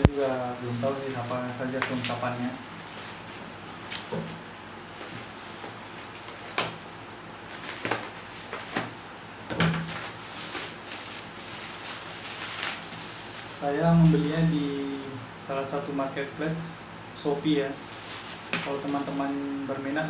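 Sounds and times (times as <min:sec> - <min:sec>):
bubble wrap rustling: 0:00.0 - 0:09.2, 0:09.8 - 0:15.0, 0:17.5 - 0:20.0.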